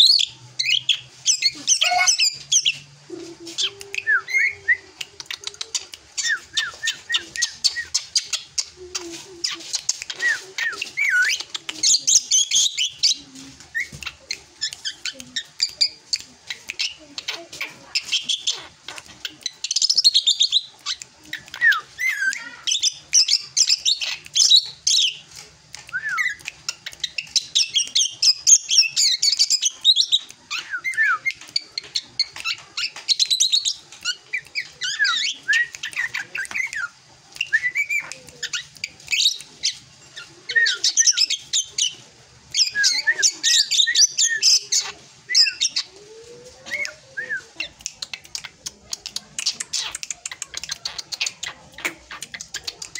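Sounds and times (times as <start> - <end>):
bird chattering song: 0.0 - 52.9.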